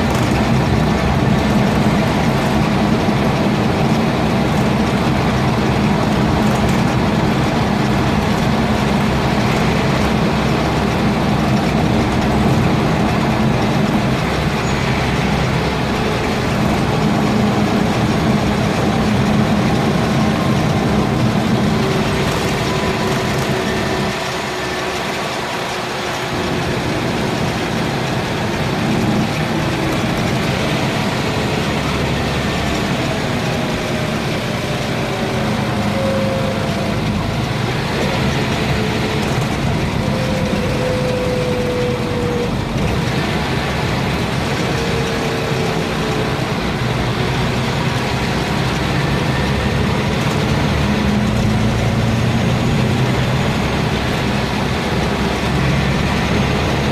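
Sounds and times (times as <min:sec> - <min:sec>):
diesel bus engine running: 0:00.0 - 0:56.9.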